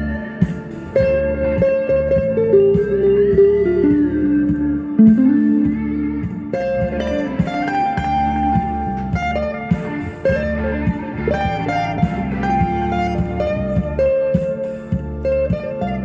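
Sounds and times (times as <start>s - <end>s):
backing accompaniment: 0.0s - 16.0s
electric guitar lead: 0.0s - 16.0s.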